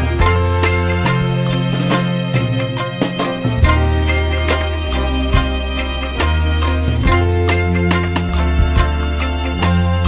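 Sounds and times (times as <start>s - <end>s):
music with steady beat and bass: 0.0s - 10.0s.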